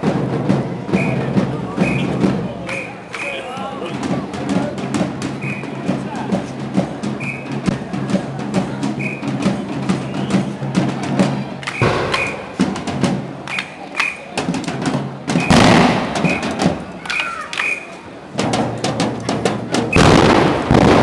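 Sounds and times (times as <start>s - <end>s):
procession drums and percussion: 0.0s - 21.0s.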